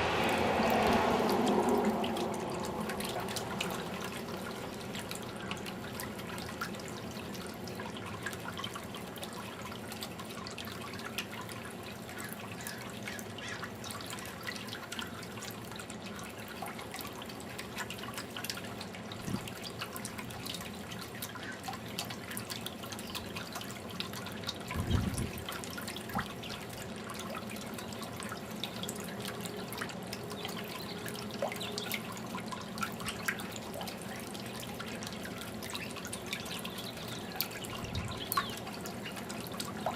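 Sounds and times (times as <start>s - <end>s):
fountain water trickling: 0.0s - 39.9s
small splashes: 0.0s - 39.9s.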